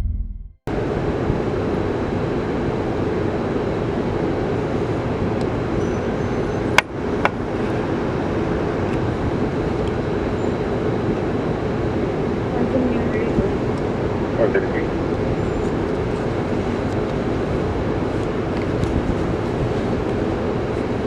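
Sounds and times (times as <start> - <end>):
steady rumbling noise: 0.0 - 21.0.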